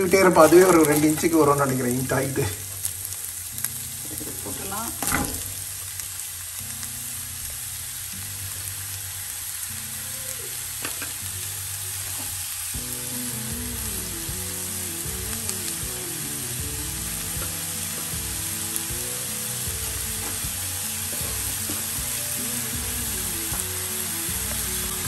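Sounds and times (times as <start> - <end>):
mushrooms sizzling in butter: 0.0 - 25.0
soft background music: 0.0 - 25.0.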